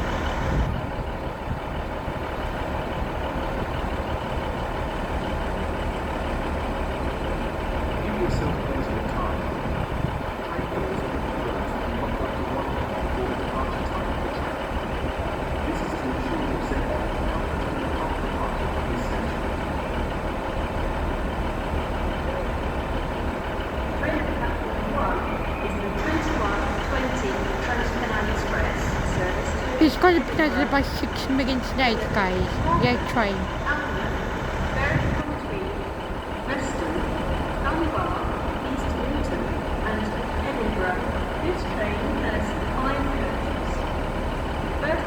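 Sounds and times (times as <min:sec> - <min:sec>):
train engines idling: 0:00.0 - 0:45.0.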